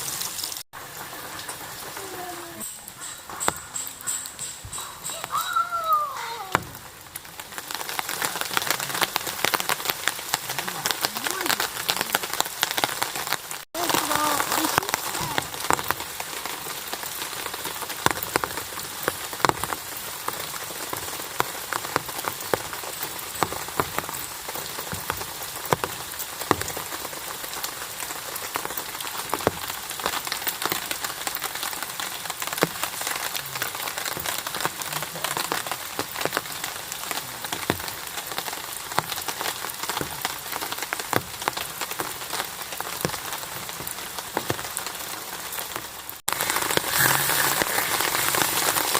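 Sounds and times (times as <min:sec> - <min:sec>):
raindrops striking a surface: 0:00.0 - 0:48.9
steady rain falling: 0:00.0 - 0:48.9.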